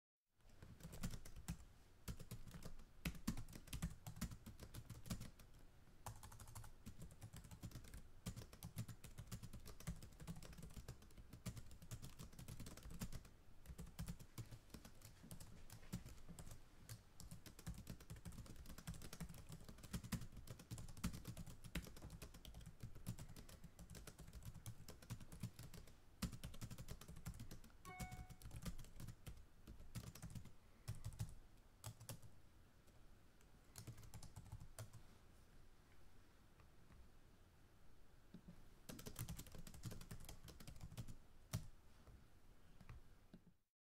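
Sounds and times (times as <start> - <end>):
fast keyboard typing: 0.5 - 32.3, 33.8 - 35.0, 38.9 - 41.7.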